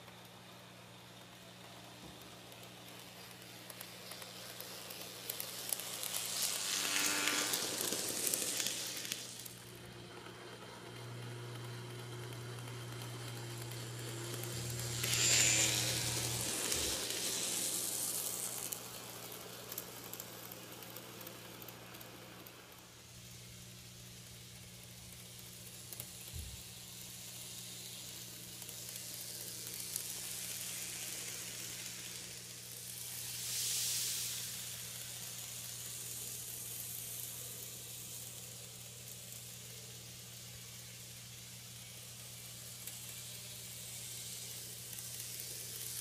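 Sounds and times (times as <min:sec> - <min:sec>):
model train motor whirring: 0:00.0 - 0:46.0.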